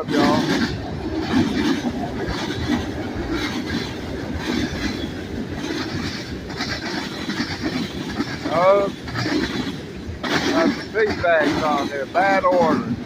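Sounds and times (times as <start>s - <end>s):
train wheels clattering: 0.0s - 13.0s.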